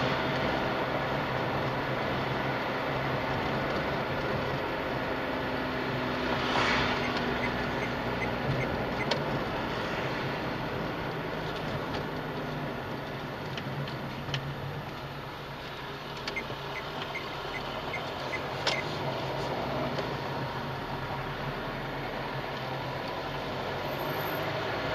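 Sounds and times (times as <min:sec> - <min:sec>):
car engine hum: 0:00.0 - 0:24.9.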